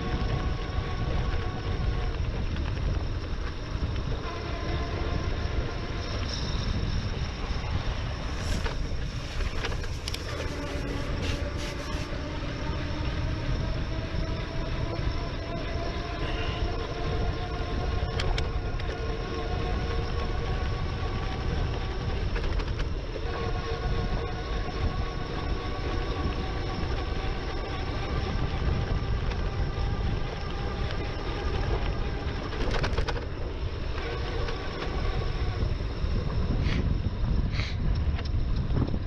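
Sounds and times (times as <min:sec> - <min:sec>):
electric motor whine: 0:00.0 - 0:37.4
wind rushing over microphone: 0:00.0 - 0:39.0.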